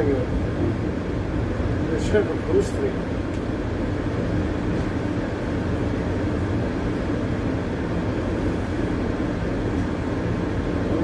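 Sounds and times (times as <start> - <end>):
streetcar running rumble: 0.0 - 11.0
ventilation blowing: 0.0 - 11.0.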